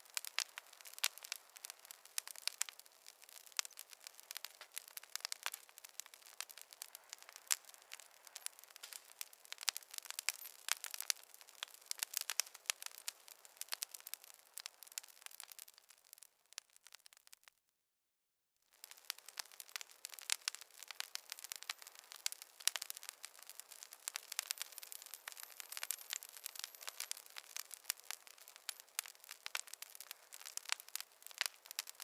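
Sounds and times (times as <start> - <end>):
wood fire crackling: 0.0 - 17.5, 18.7 - 32.0.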